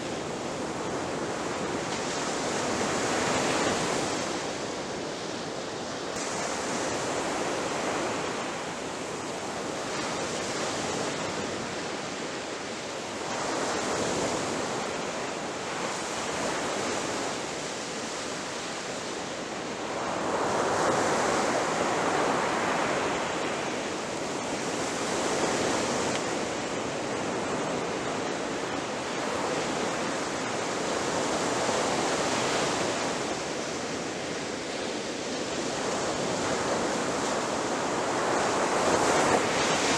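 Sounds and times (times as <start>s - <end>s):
ocean surf breaking on a beach: 0.0s - 39.9s.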